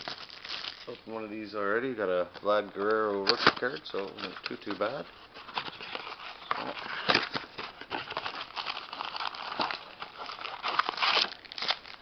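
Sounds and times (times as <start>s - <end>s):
card packs crinkling and rustling: 0.0s - 12.0s.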